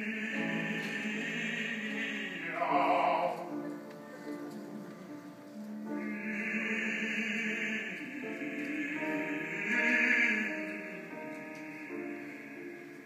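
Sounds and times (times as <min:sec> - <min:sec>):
operatic male singing: 0:00.0 - 0:03.5, 0:06.0 - 0:13.0
grand piano accompaniment: 0:00.0 - 0:13.0.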